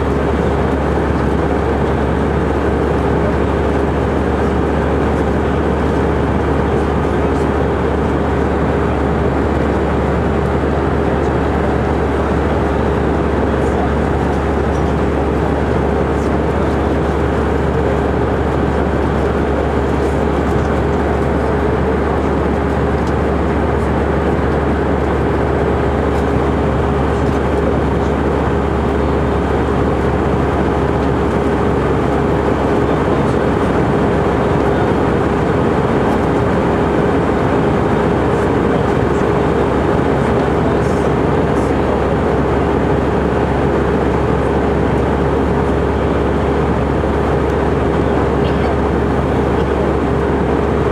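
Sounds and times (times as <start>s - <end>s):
airplane cabin drone: 0.0s - 50.9s
constant hum: 0.0s - 50.9s.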